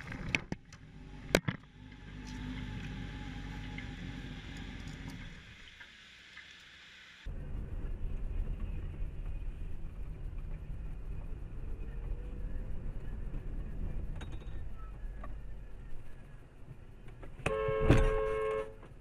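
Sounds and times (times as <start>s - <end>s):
car engine rumble: 0.0s - 5.8s, 7.3s - 19.0s
road noise: 0.0s - 19.0s.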